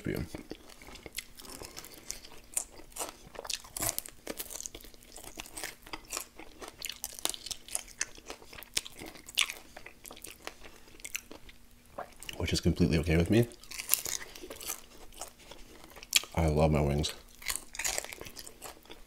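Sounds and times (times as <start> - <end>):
mouth crunching fried chicken: 0.1 - 12.5, 13.5 - 19.0.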